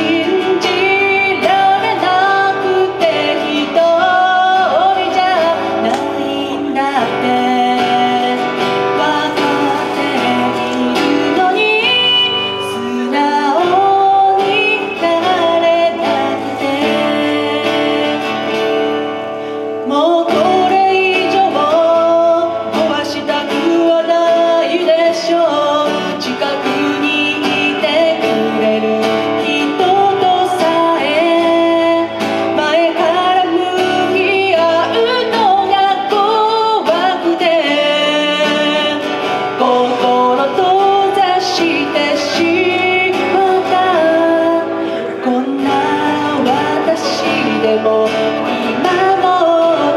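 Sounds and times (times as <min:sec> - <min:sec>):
acoustic guitar: 0:00.0 - 0:49.9
woman singing: 0:00.0 - 0:49.9.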